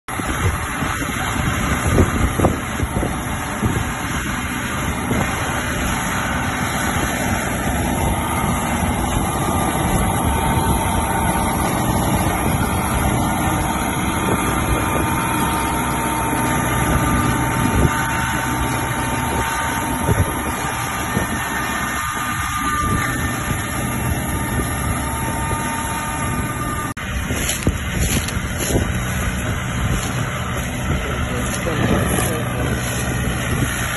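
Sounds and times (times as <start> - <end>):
rotary mulcher chopping crop residue: 0.1 - 33.9
tractor diesel engine running: 0.1 - 33.9.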